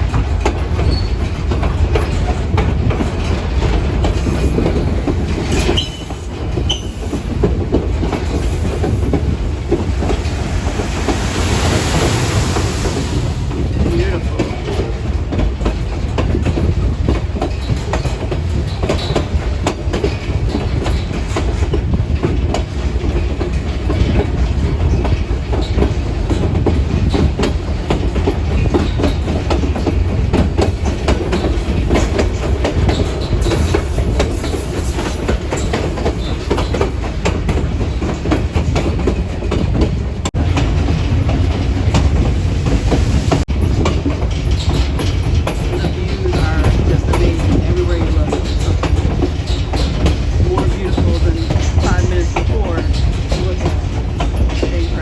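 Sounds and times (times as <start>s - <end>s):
train rumbling along track: 0.0s - 55.0s
wheels clicking over rail joints: 0.0s - 55.0s.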